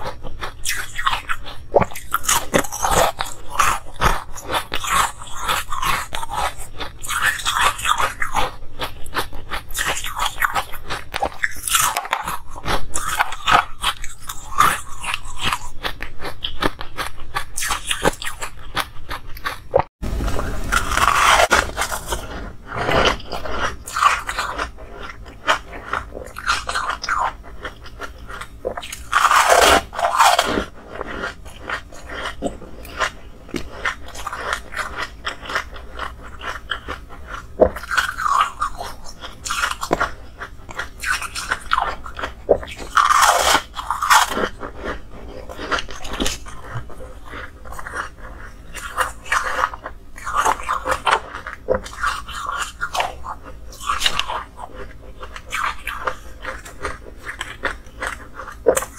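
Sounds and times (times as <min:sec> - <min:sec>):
ice crunching while chewed: 0:00.0 - 0:58.9.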